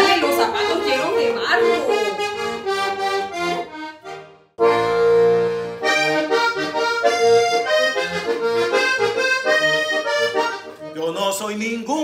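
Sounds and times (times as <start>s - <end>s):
button accordion playing: 0.0s - 11.6s.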